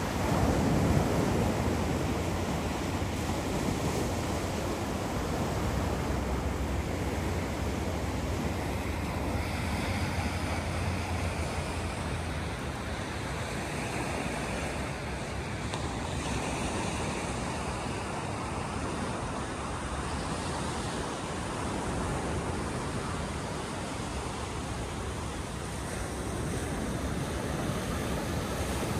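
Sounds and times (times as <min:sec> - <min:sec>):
sea waves breaking on shore: 0:00.0 - 0:28.9
wind rumble on microphone: 0:00.0 - 0:28.9.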